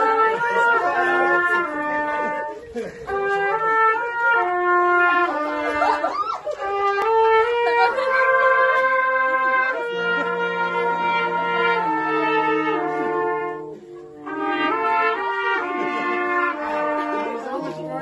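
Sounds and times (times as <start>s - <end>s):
brass instruments playing slow tune: 0.0s - 18.0s.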